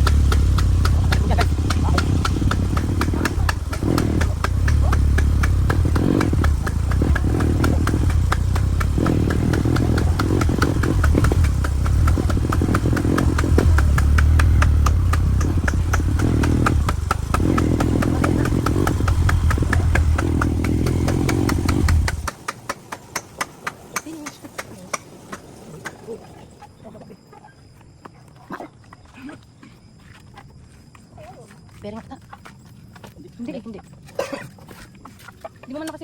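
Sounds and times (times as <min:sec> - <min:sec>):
motorcycle engine rumbling: 0:00.0 - 0:29.2.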